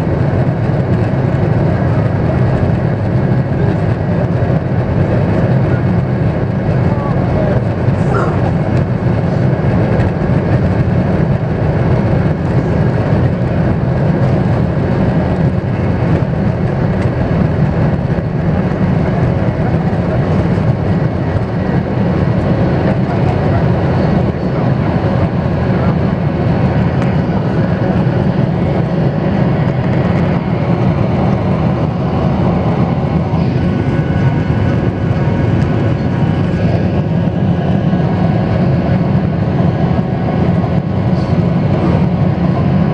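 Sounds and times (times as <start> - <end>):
jet engines roaring in cabin: 0.0 - 42.9.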